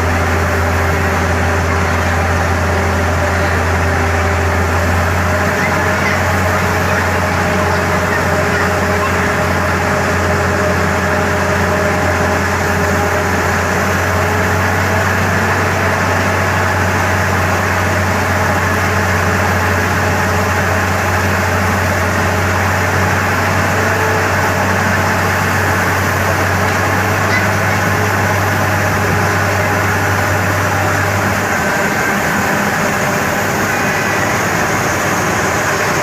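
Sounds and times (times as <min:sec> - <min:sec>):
drilling rig engine drone: 0:00.0 - 0:36.0.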